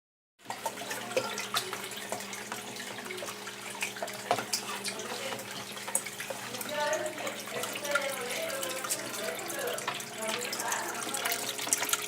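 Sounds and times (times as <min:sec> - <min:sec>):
water splashing and dripping: 0:00.4 - 0:12.0.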